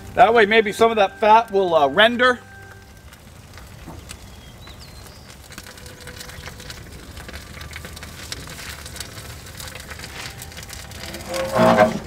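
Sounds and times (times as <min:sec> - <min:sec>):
ribs sizzling and crackling on grill: 0:00.0 - 0:12.0.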